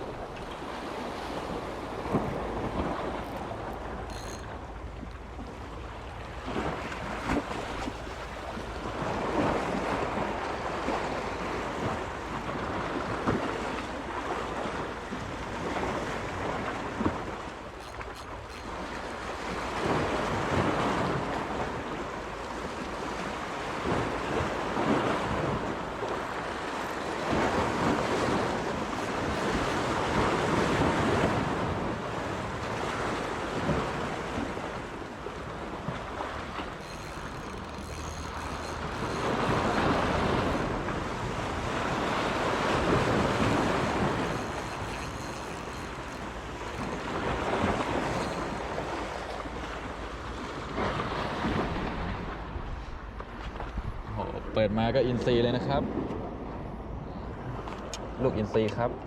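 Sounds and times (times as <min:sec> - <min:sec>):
sea waves washing in: 0:00.0 - 0:58.9.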